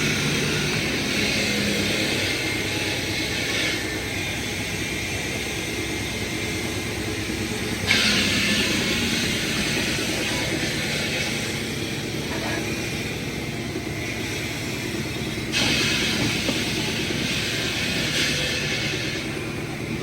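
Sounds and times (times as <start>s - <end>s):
heavy machinery humming: 0.0s - 20.0s.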